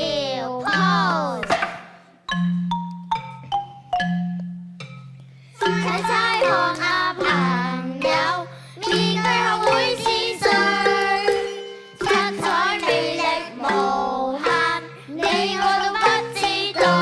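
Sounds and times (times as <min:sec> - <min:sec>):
mallet percussion melody: 0:00.0 - 0:17.0.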